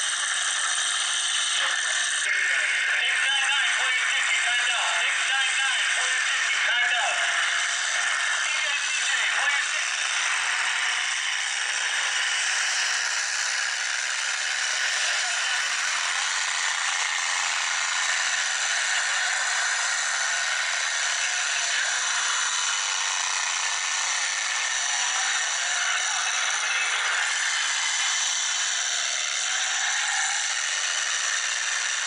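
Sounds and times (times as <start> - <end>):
truck engines running and rattling: 3.0 - 31.9.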